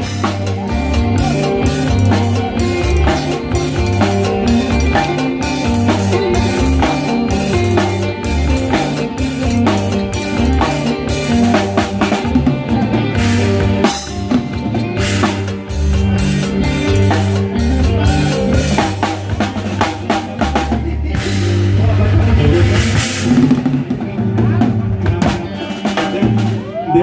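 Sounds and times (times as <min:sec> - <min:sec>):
low bass line: 0:00.0 - 0:25.6
drum kit playing a driving beat: 0:00.0 - 0:27.0.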